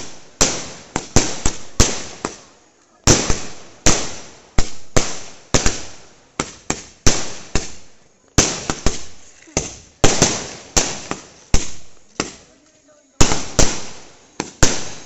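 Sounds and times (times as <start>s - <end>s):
firework bangs: 0.0s - 12.6s, 13.2s - 15.0s.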